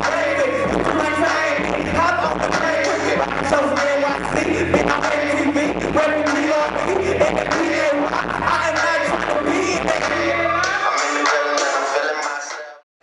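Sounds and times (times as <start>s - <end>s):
heavy bass beat: 0.0s - 12.8s
person rapping and singing: 0.0s - 12.8s.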